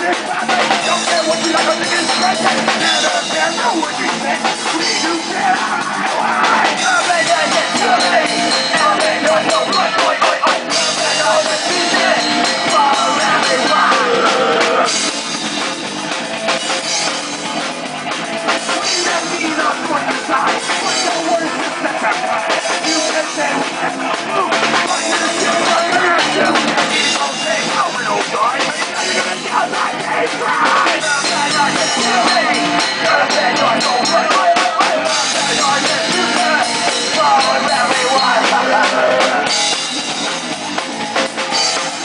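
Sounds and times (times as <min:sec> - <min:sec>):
punk band playing: 0:00.0 - 0:42.0.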